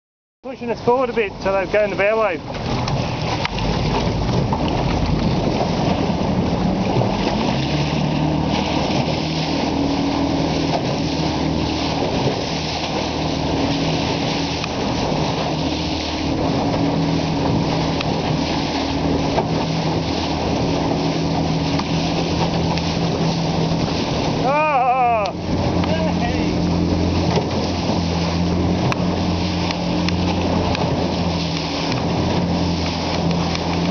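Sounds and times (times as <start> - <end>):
boat engine humming: 0.4 - 33.9
water rushing and splashing: 0.4 - 33.9
wind on microphone: 2.5 - 33.9.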